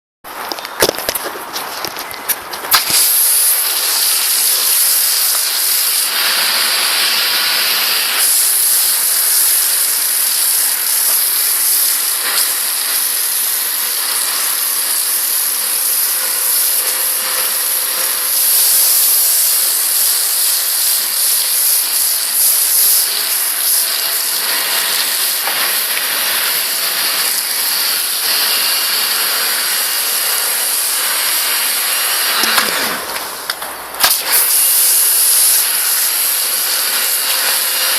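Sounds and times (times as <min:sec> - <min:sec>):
pressure washer spraying foam: 0:02.7 - 0:37.9.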